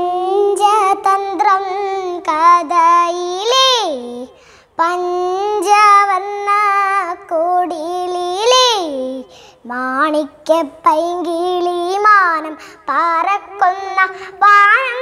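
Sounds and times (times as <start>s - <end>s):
girl singing unaccompanied: 0.0s - 15.0s.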